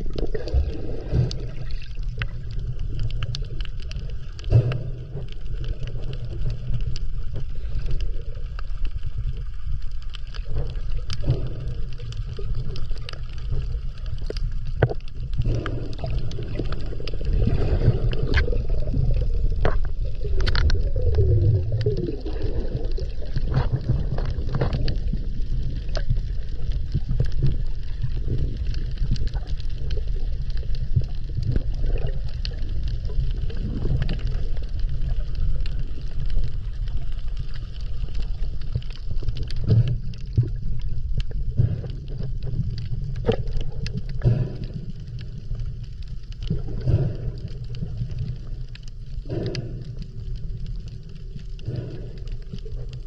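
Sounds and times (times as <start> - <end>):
clicks and crackles: 0.0 - 53.0
underwater rumble: 0.0 - 53.0
water gurgling: 0.0 - 53.0.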